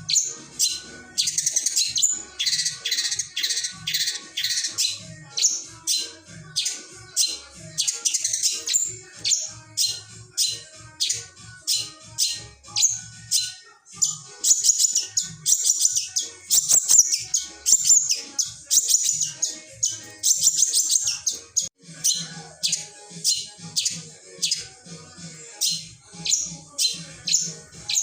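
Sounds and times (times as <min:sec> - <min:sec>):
bird singing scratchy high notes: 0:00.0 - 0:28.0.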